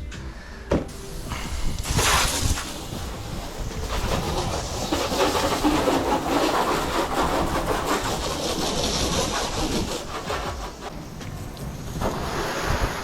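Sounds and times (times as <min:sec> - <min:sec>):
water spraying on car: 0:01.0 - 0:13.0.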